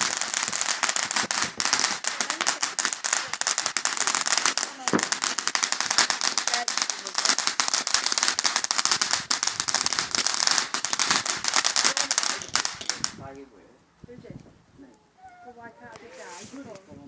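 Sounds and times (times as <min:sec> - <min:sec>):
fireworks crackling: 0:00.0 - 0:14.5, 0:15.6 - 0:17.0.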